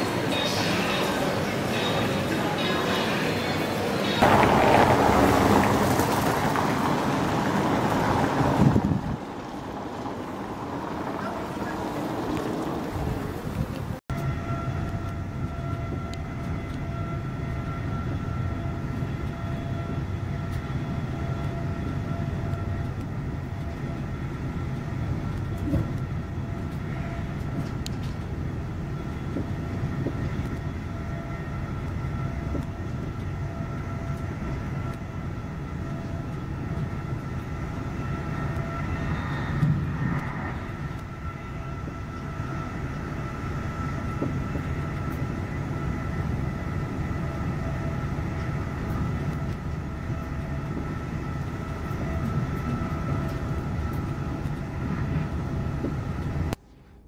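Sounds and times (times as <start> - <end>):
train rumble inside carriage: 0.0 - 56.6.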